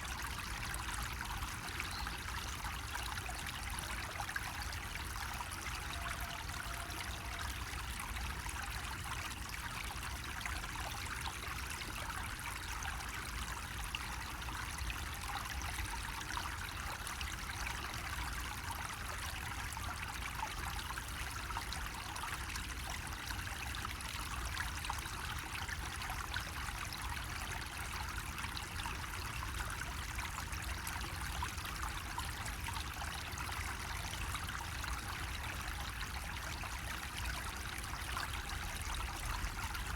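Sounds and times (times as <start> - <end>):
water trickling from spout: 0.0 - 39.9.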